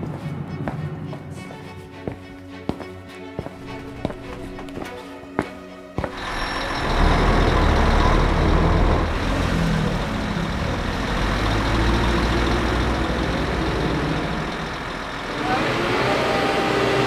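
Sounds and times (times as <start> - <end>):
forklift engine running: 2.0 - 17.0.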